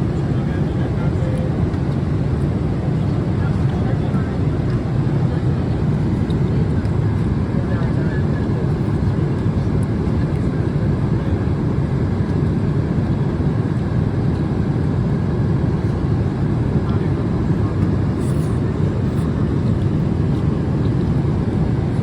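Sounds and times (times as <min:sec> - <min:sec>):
airliner cabin noise: 0:00.0 - 0:22.0.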